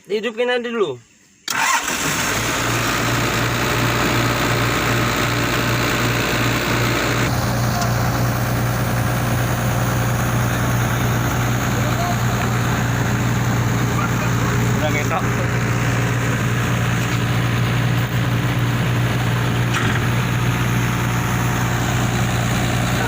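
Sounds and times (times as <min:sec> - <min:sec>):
excavator diesel engine idling: 0:01.5 - 0:23.0.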